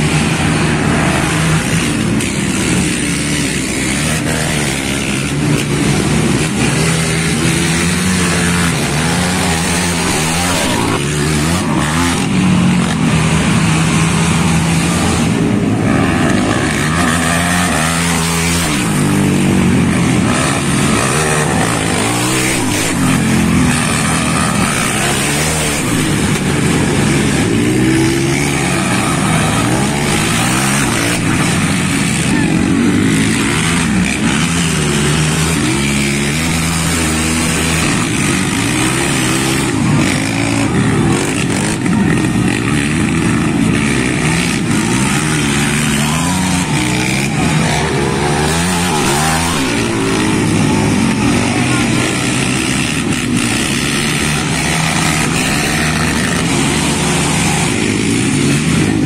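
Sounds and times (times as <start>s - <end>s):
quad bike engines revving: 0.0s - 59.0s.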